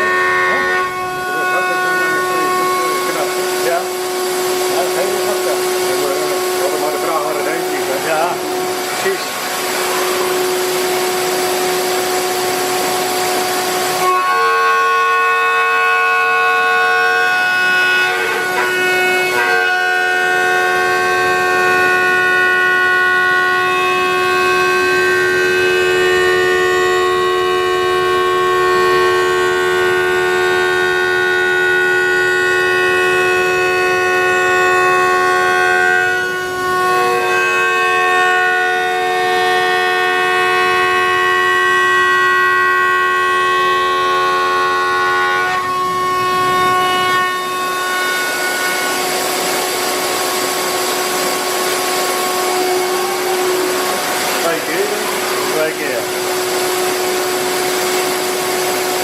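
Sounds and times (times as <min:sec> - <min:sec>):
router spindle whine milling wood: 0:00.0 - 0:59.0.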